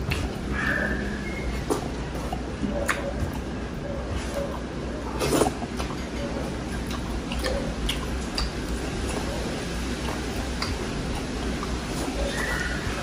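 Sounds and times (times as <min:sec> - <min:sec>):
chewing and mouth smacks: 0:00.0 - 0:13.0.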